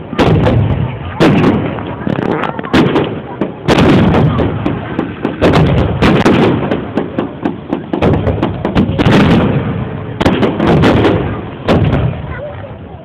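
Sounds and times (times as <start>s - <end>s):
fireworks launching and bursting: 0.0s - 13.0s.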